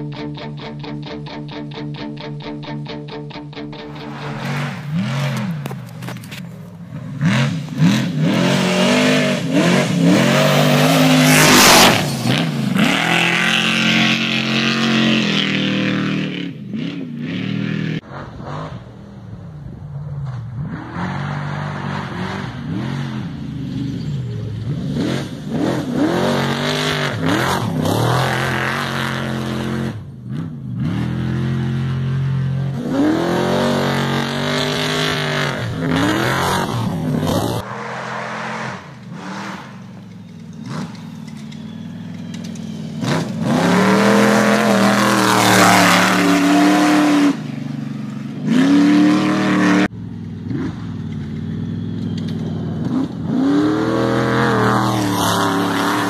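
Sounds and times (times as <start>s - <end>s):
off-road vehicle engines revving: 3.8s - 56.0s.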